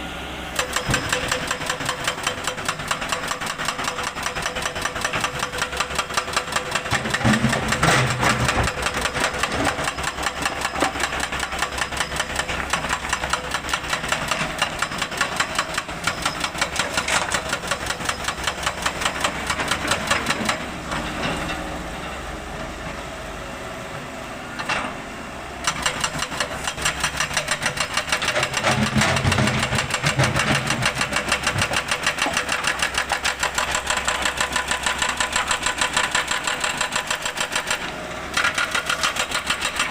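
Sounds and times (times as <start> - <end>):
excavator diesel engine knocking: 0.6 - 20.9, 25.6 - 39.9.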